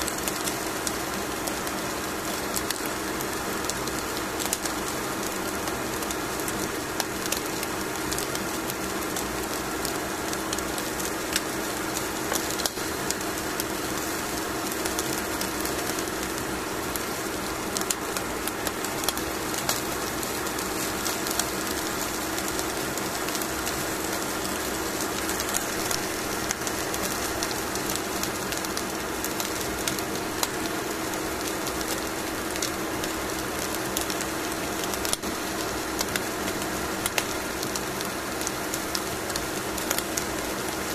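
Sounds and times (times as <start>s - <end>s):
fish sizzling on foil: 0.0s - 40.9s.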